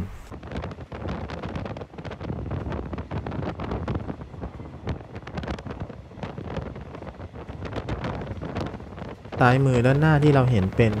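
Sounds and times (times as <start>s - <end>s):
train rumbling: 0.0s - 11.0s
wind buffeting microphone: 0.0s - 11.0s.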